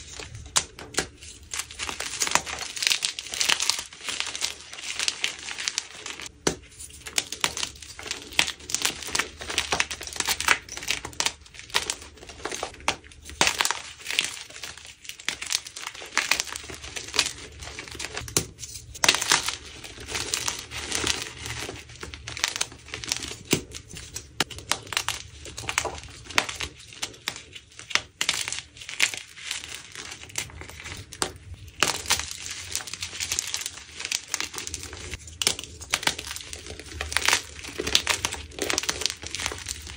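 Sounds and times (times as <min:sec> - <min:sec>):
chalk blocks being crushed: 0:00.0 - 0:39.9.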